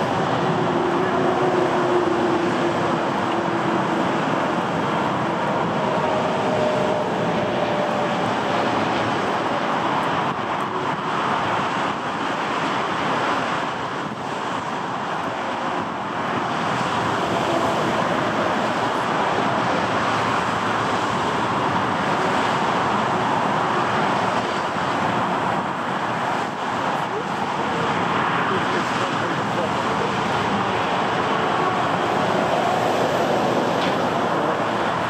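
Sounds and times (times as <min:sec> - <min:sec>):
jet engines roaring at take-off: 0:00.0 - 0:35.0
wind on microphone: 0:00.0 - 0:35.0.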